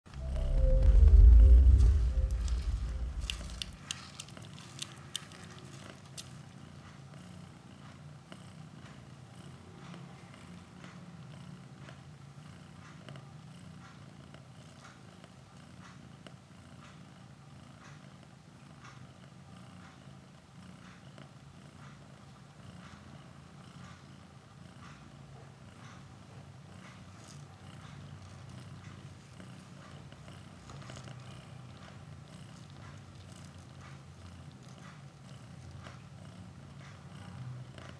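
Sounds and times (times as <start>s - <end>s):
cat purring: 0.0s - 37.9s.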